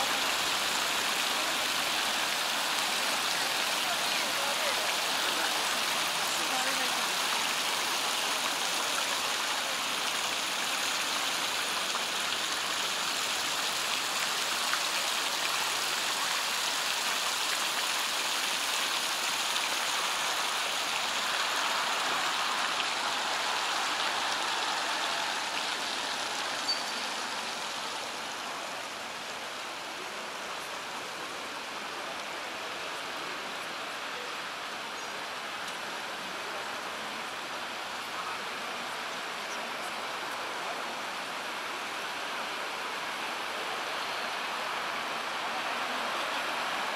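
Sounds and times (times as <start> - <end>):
fountain jets splashing: 0.0 - 46.9.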